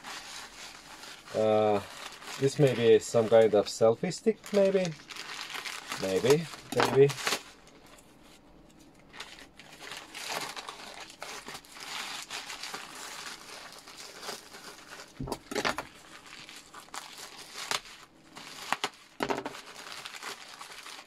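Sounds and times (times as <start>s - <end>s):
plastic ripping: 0.0s - 3.6s, 4.2s - 8.0s, 8.9s - 21.0s
plastic bag crinkling: 0.0s - 8.0s, 8.9s - 21.0s.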